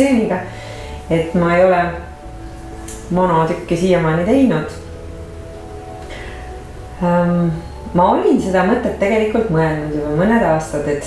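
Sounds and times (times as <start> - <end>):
soft music with held notes: 0.0 - 11.0.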